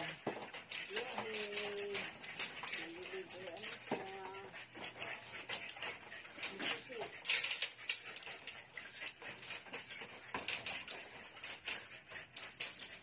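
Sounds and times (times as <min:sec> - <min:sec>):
puppy paws clicking on tile: 0:00.0 - 0:13.0.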